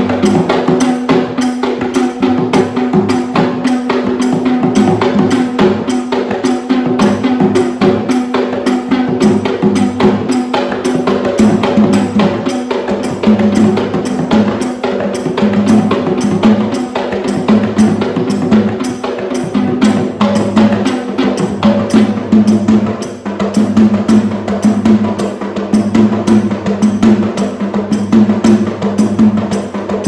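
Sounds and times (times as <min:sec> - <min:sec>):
frame drums played fast: 0:00.0 - 0:30.0.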